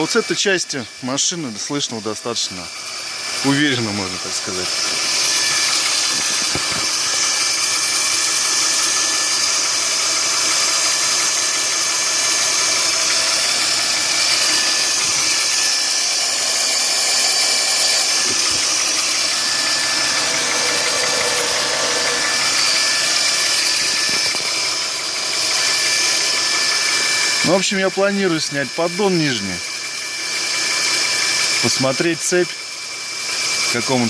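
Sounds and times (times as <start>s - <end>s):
high-pitched whine: 0.0s - 33.9s
car engine running: 0.0s - 34.0s.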